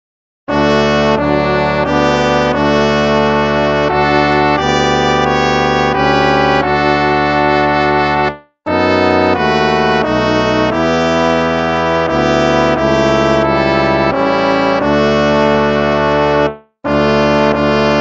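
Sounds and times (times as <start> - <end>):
brass band playing a hymn: 0.5 - 8.0, 8.7 - 18.0.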